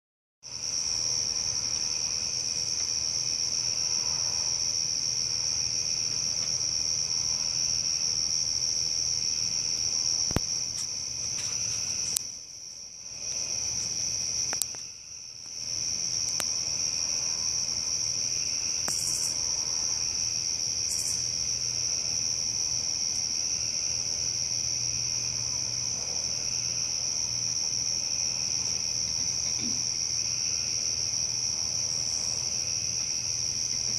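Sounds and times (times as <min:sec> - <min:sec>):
insects trilling: 0:00.5 - 0:33.9.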